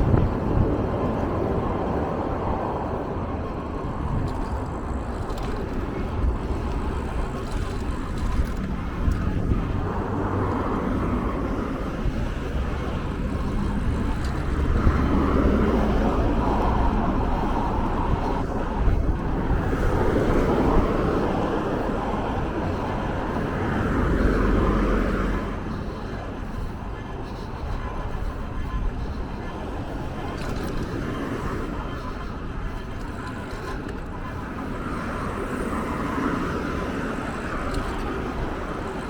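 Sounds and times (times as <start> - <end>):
vehicle running low rumble: 0.0 - 39.0.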